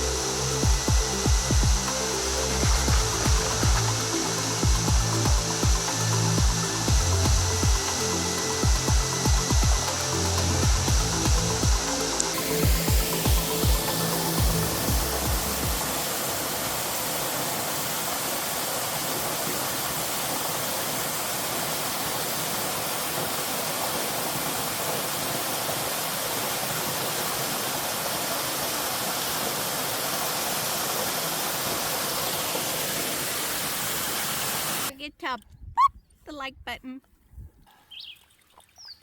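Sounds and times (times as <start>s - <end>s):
waterfall pouring: 0.0s - 34.9s, 38.0s - 39.0s.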